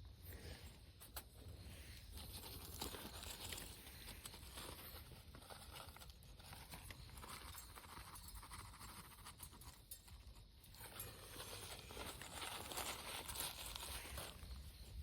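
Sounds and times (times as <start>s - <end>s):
crinkling and rustling: 0.9s - 15.0s.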